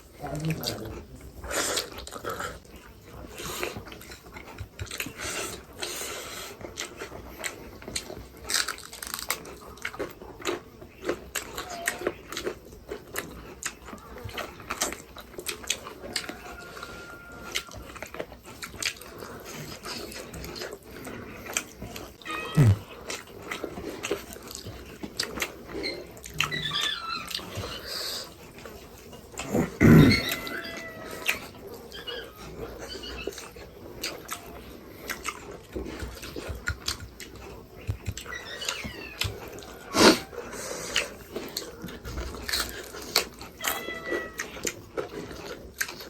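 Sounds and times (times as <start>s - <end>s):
chewing dried meat: 0.0s - 46.0s.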